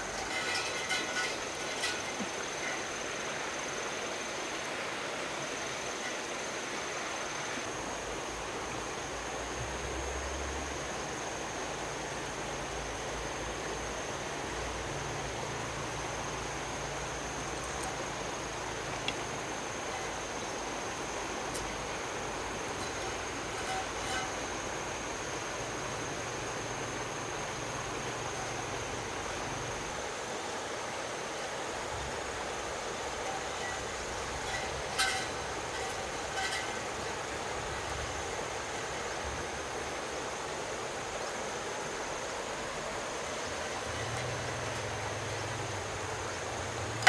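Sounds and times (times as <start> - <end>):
rushing outdoor background noise: 0.0 - 47.0
thin high steady tone: 0.0 - 47.0.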